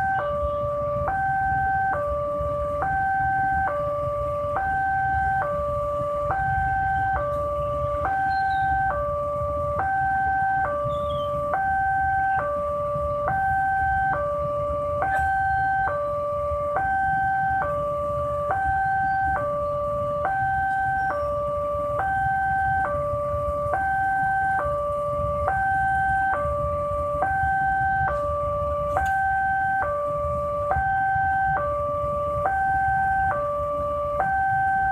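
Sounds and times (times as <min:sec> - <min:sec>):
steady low rumble: 0:00.0 - 0:34.9
two-tone level crossing alarm: 0:00.0 - 0:34.9.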